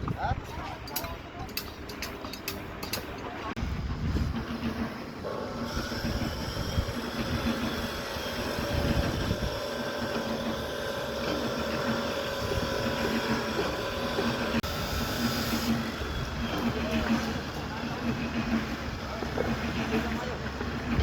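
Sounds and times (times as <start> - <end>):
machine humming and whining: 0.9 - 21.0.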